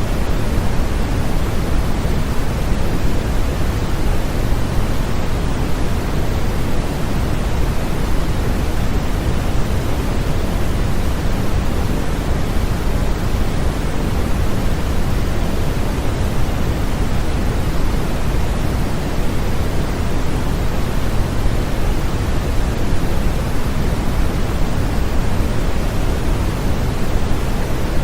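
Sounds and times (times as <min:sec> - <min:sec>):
steady low white noise: 0:00.0 - 0:28.0.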